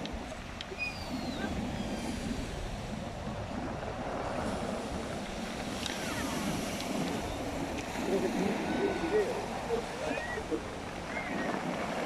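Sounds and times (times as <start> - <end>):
sea surf washing on shore: 0.0 - 12.0
wind buffeting microphone: 0.0 - 12.0.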